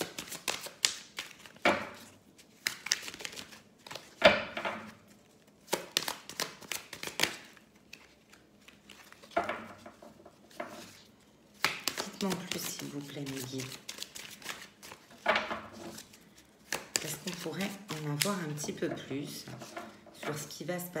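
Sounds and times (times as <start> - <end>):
cards being shuffled: 0.0 - 4.2, 4.9 - 18.8.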